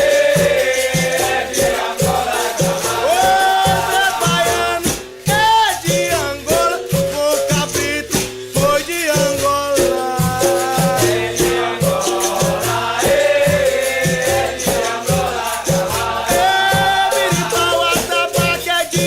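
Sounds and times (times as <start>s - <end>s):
shaker rattle: 0.0s - 19.0s
steady percussion beat: 0.0s - 19.0s
voices singing: 0.0s - 19.0s.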